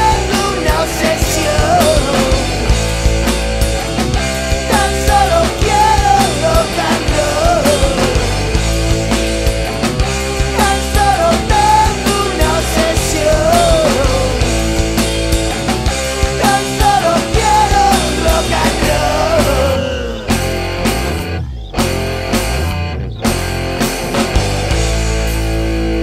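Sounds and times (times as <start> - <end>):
bending melodic lead line: 0.0 - 25.2
rock band playing: 0.0 - 26.0.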